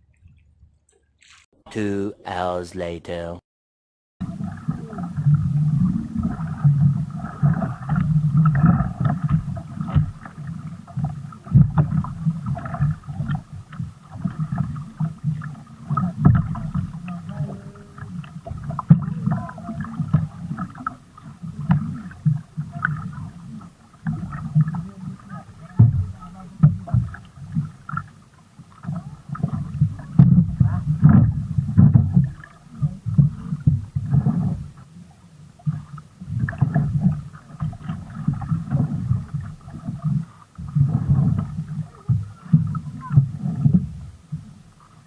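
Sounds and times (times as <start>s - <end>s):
paddle pulling through water: 4.2s - 45.0s
water slapping hull: 4.2s - 45.0s.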